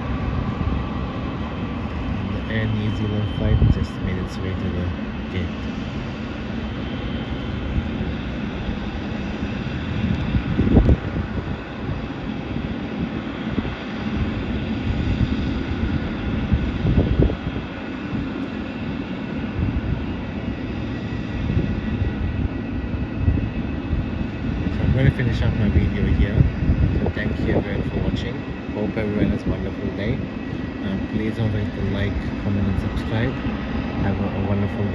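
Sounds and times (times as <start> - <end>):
jet engines running: 0.0 - 34.9
wind on microphone: 0.0 - 34.9.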